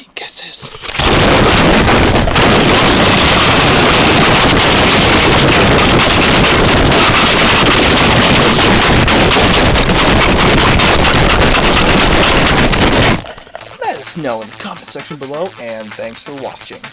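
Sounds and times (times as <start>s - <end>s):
loud distorted noise: 0.7s - 14.3s.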